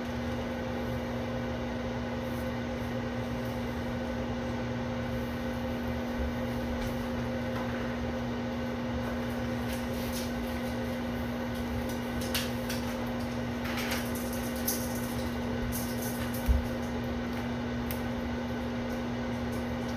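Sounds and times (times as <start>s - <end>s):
microwave oven hum and fan: 0.0s - 19.9s.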